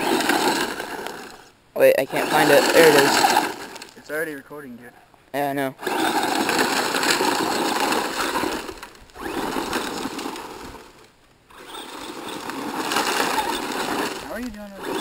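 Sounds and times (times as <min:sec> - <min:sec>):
toy truck electric motor: 0:00.0 - 0:01.5, 0:02.1 - 0:04.0, 0:05.8 - 0:15.0.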